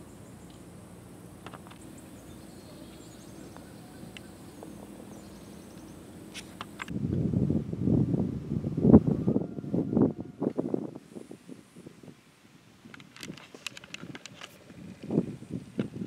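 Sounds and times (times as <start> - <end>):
wind buffeting microphone: 1.8 - 16.0.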